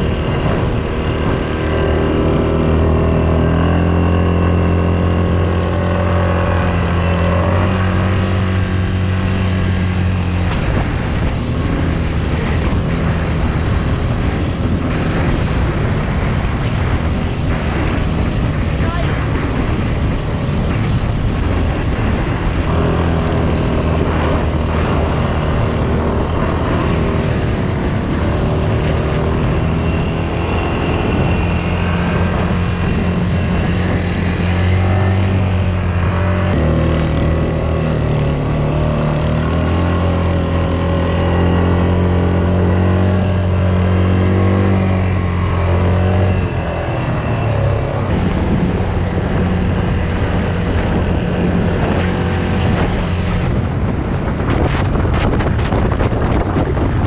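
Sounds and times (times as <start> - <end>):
quad bike engines revving: 0.0 - 57.0.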